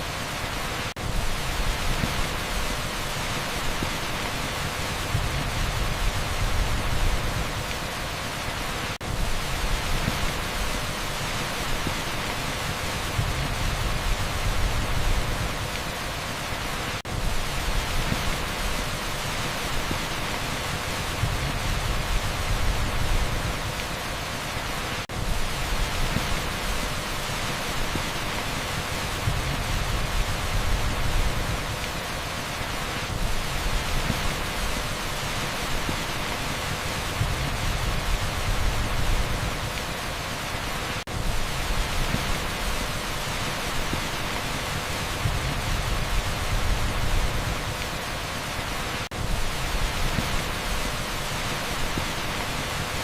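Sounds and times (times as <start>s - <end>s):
heavy rain on asphalt: 0.0s - 53.0s.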